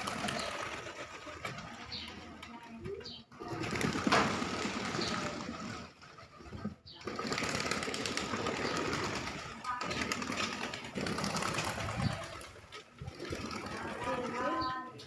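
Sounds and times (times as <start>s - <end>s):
pigeons pecking clicks: 0.0s - 14.4s
pigeons cooing: 0.0s - 15.0s.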